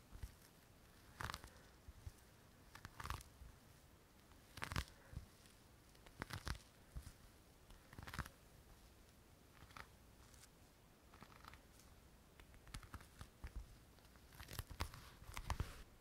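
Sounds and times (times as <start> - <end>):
crinkling and clicks of small items: 0.0 - 3.4, 4.2 - 10.5, 11.1 - 15.9.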